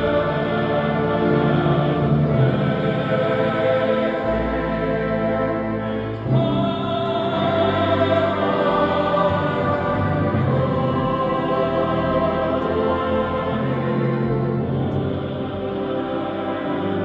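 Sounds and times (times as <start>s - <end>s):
boys' choir singing chords: 0.0s - 17.0s.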